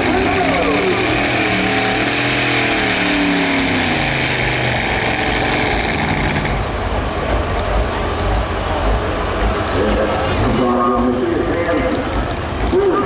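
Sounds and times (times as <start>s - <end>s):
loud rushing noise: 0.0s - 13.0s
tractor engine at high revs: 0.0s - 13.0s.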